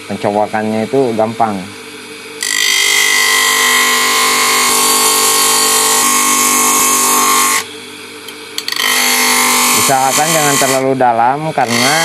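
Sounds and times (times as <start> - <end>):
grinder motor humming: 2.3 - 12.0.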